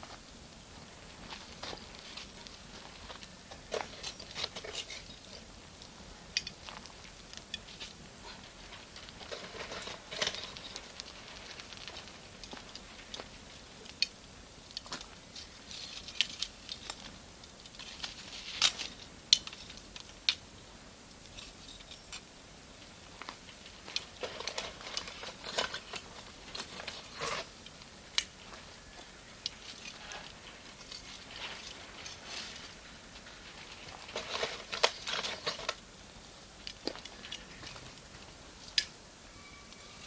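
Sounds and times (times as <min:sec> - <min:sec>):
campfire crackling and popping: 0:00.0 - 0:39.1.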